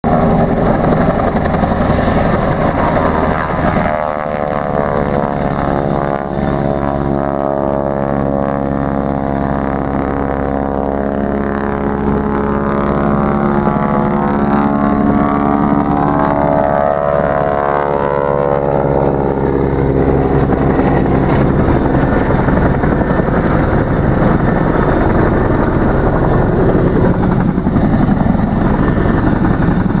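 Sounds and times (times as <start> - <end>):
propeller aircraft engine running: 0.0 - 30.0
wind rushing over microphone: 0.0 - 30.0.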